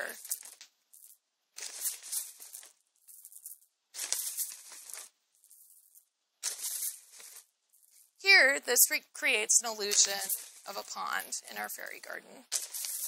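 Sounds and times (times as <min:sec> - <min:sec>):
glass stones rattling: 0:00.0 - 0:08.2, 0:09.8 - 0:13.0.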